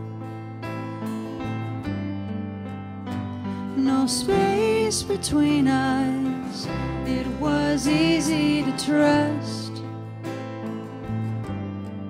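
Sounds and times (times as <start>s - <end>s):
acoustic guitar strumming: 0.0s - 12.0s
electric bass notes: 0.0s - 12.0s.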